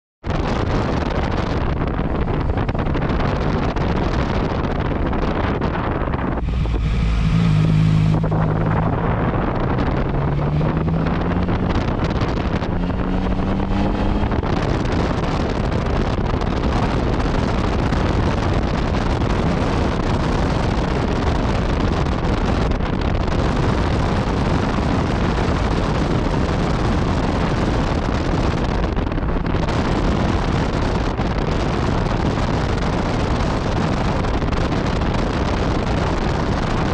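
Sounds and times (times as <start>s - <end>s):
wind rushing over microphone: 0.2s - 36.9s
motorcycle engine accelerating: 0.4s - 36.9s.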